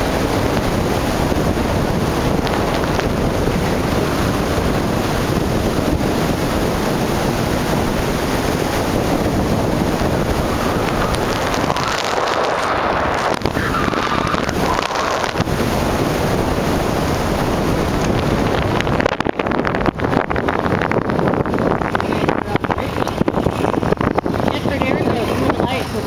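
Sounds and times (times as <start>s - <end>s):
car engine at full throttle: 0.0s - 26.0s
wind noise on microphone: 0.0s - 26.0s.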